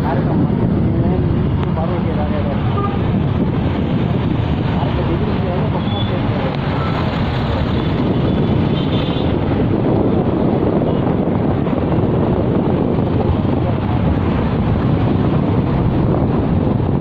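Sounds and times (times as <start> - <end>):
surrounding traffic: 0.0 - 17.0
wind buffeting microphone: 0.0 - 17.0.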